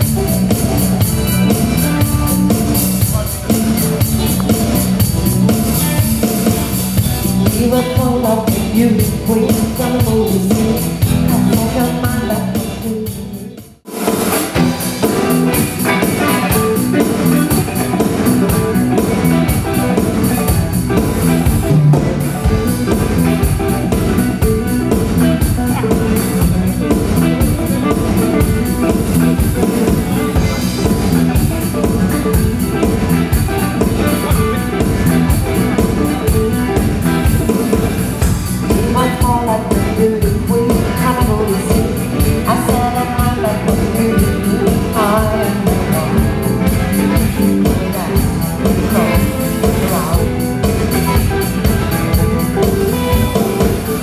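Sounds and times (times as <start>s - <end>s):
rock band playing: 0.0s - 54.0s
person singing: 6.7s - 13.7s, 14.6s - 54.0s.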